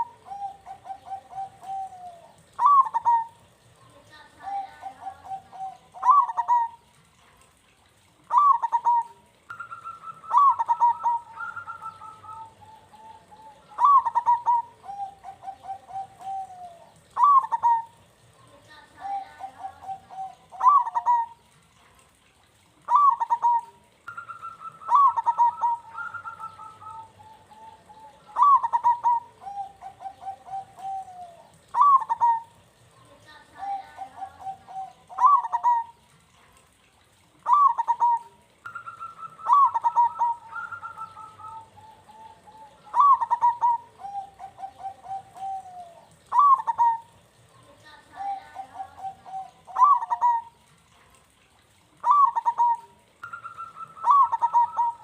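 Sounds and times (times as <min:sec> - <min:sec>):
dove cooing song: 0:00.0 - 0:55.0.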